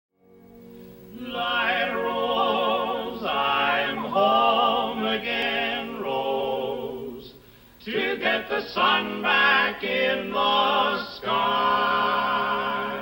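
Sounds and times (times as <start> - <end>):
men singing in close harmony: 1.1 - 13.0.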